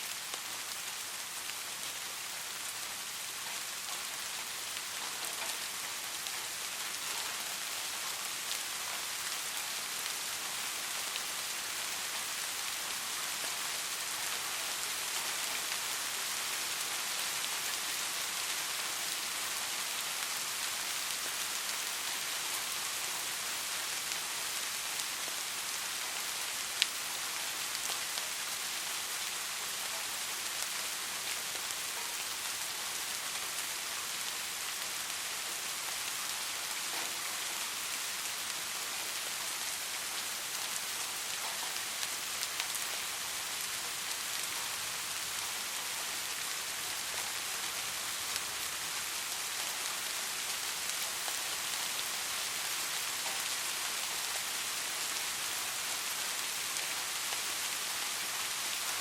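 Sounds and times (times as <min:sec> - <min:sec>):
soft steady rain: 0:00.0 - 0:59.0.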